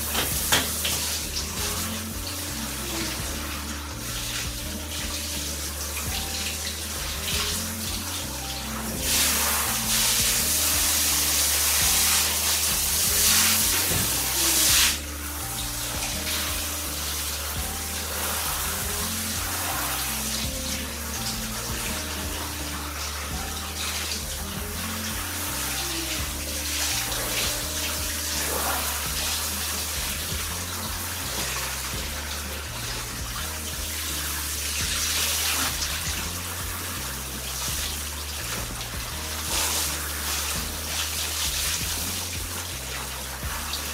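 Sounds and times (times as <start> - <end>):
background music: 0.0 - 43.9
shower water spraying into bathtub: 0.0 - 43.9.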